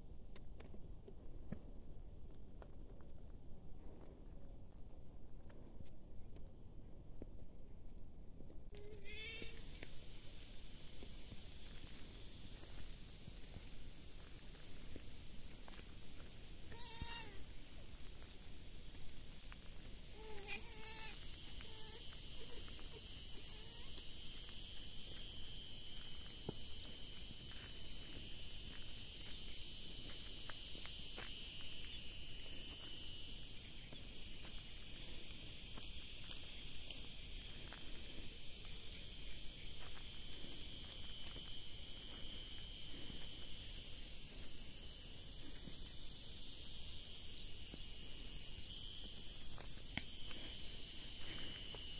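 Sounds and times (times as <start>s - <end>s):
insects shrilling: 8.8s - 51.9s.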